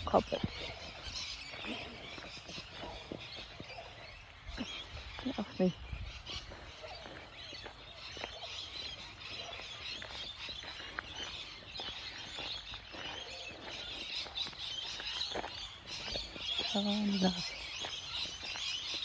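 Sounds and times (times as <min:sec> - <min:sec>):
birds chirping and screeching: 0:00.0 - 0:19.0.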